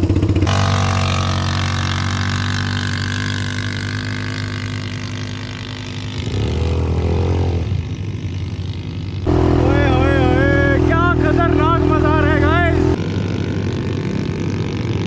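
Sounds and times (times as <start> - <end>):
motorbike engine idling and revving: 0.0 - 15.0.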